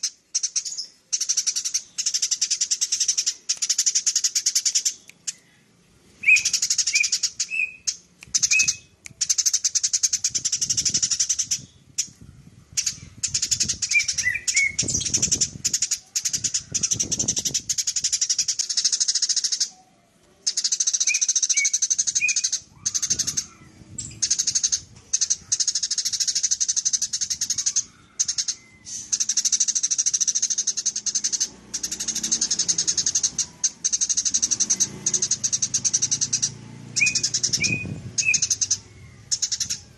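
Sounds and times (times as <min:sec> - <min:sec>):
sparrow chattering trill: 0:00.0 - 0:05.4, 0:06.2 - 0:19.8, 0:20.4 - 0:39.9.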